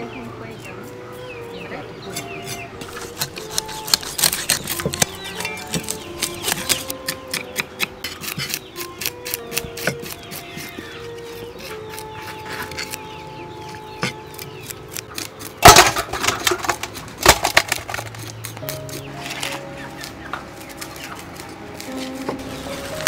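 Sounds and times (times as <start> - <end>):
cleaver scraping fish scales: 2.0 - 23.0.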